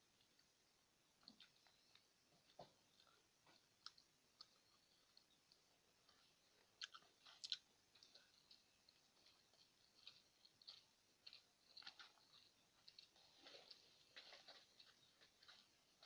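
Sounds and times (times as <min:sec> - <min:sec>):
fingers squishing rice: 0:00.2 - 0:15.1
mouth chewing: 0:01.2 - 0:15.6.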